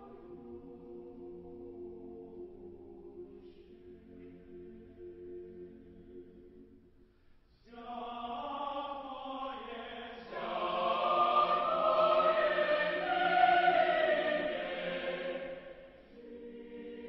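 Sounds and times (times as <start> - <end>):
choir singing long held notes: 0.0 - 6.7, 7.7 - 17.0.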